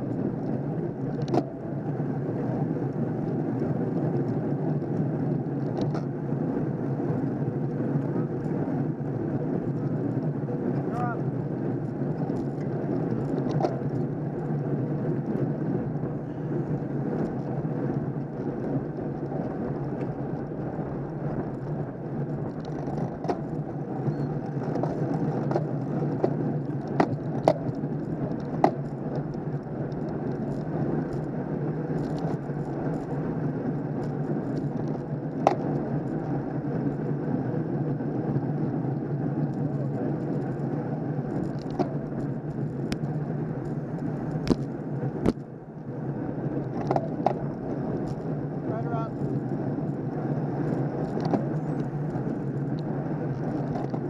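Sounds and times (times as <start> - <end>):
bicycle road noise: 0.0 - 54.0
wind noise: 0.0 - 54.0.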